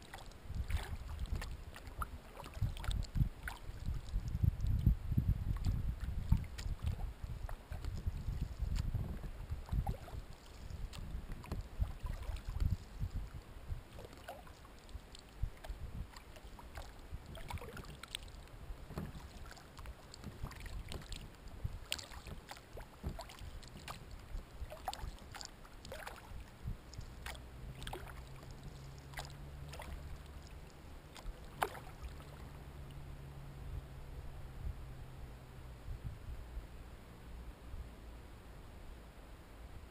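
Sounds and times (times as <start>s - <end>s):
paddle drips and splashes: 0.0s - 33.3s.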